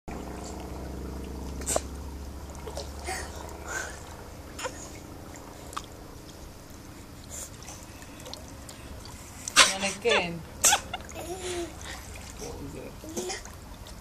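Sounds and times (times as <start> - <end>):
steady low hum: 0.1 - 14.0
water splashing in a pool: 0.1 - 14.0.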